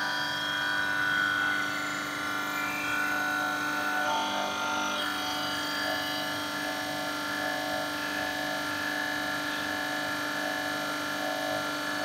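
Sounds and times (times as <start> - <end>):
mechanical whine of oil pump: 0.0 - 12.0.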